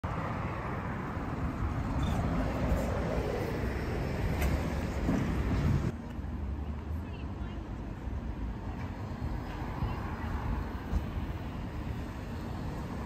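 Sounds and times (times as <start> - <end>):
road and traffic noise: 0.0 - 13.0
bus engine rumble: 0.1 - 13.0.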